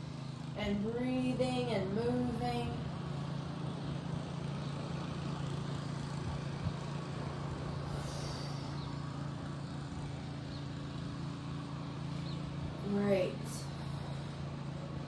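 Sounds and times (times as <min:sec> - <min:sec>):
low steady hum: 0:00.0 - 0:03.7, 0:04.5 - 0:15.0.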